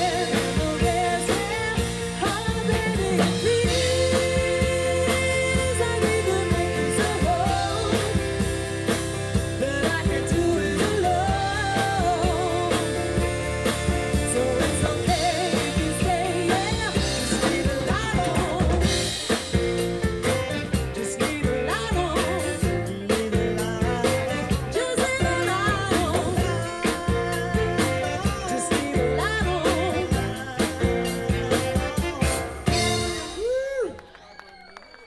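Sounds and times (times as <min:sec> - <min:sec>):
person singing: 0:00.0 - 0:34.0
funk band playing: 0:00.0 - 0:34.2.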